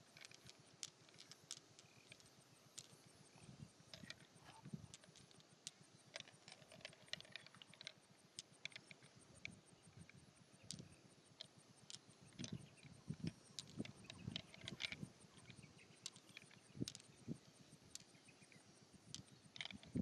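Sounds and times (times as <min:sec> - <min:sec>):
insect-like chirping pulse: 0:00.0 - 0:20.0.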